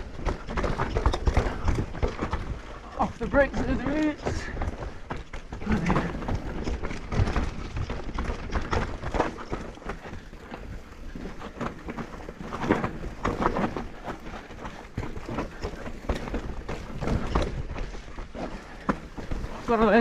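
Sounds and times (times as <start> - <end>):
bike knocking and rattling: 0.0 - 20.0
bike tyres on dirt and roots: 0.0 - 20.0.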